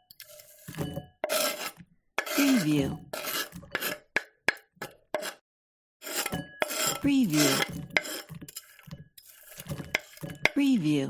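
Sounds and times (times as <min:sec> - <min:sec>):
knife scraping a cutting board: 0:00.1 - 0:04.2, 0:04.8 - 0:05.4, 0:06.0 - 0:10.6.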